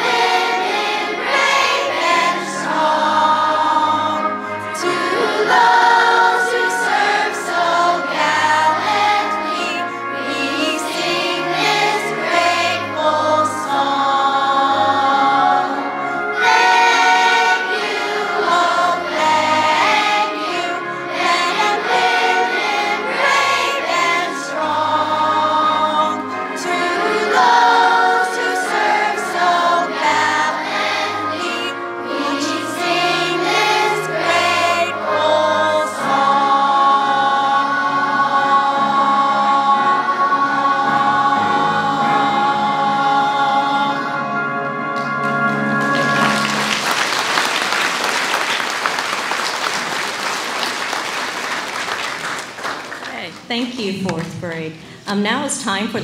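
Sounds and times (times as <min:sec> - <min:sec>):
children's choir singing: 0:00.0 - 0:52.9.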